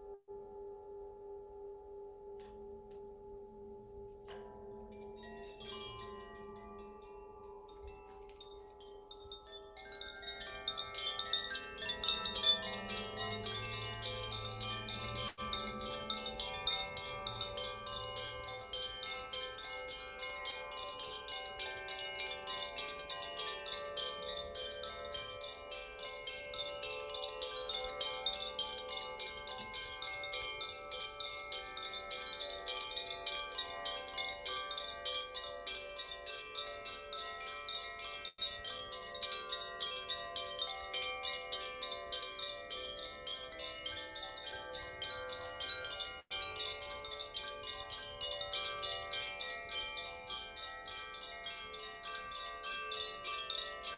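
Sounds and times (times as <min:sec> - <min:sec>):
chimes ringing: 0:04.1 - 0:53.9.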